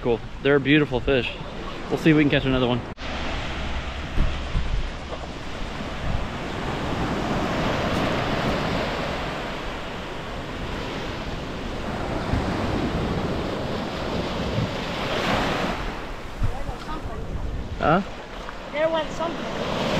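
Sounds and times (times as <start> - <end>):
ocean surf washing onto beach: 0.0 - 19.9
wind buffeting microphone: 0.0 - 19.9.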